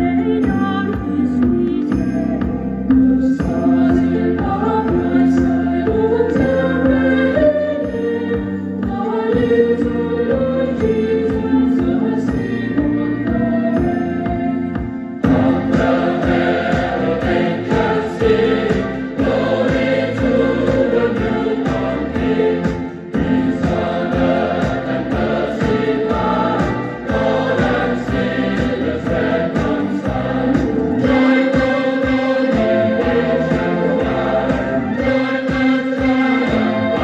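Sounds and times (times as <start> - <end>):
choir singing a carol: 0.0 - 37.0
instrumental accompaniment: 0.0 - 37.0.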